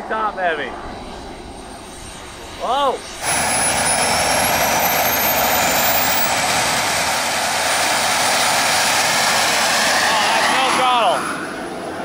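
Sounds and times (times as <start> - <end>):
mini jet turbine whining: 0.0 - 12.0.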